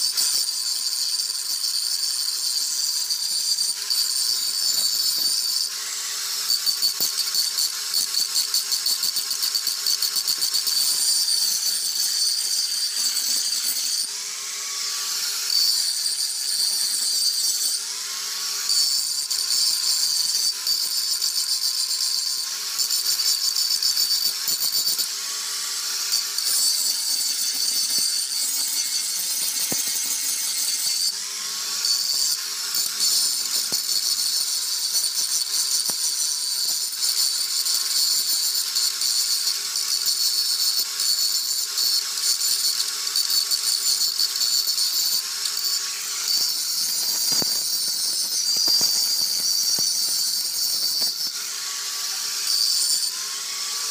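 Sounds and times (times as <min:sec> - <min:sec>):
welding arc crackling and sizzling: 0:00.0 - 0:14.1, 0:14.9 - 0:53.9.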